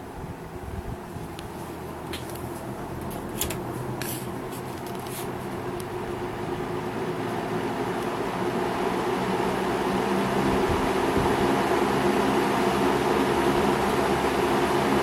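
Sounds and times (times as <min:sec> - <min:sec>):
box fan humming: 0:00.0 - 0:15.0.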